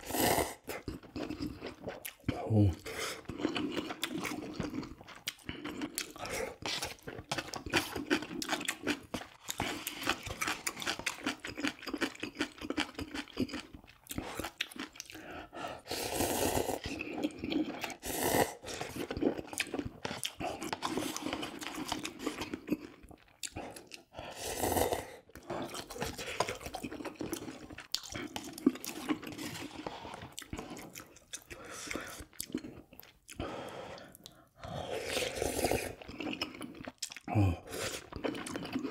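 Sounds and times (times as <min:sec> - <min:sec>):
wet chewing and crunching: 0:00.0 - 0:15.4, 0:16.6 - 0:24.3, 0:25.2 - 0:38.9
slurping noodles: 0:00.0 - 0:38.9.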